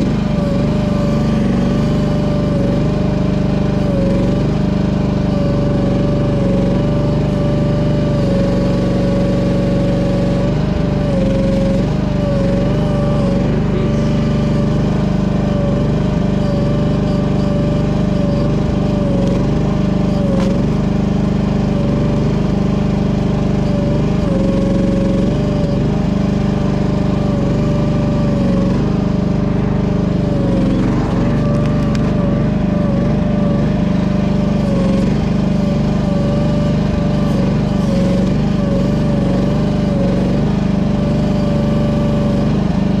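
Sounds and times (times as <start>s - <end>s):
small excavator engine running: 0.0s - 43.0s.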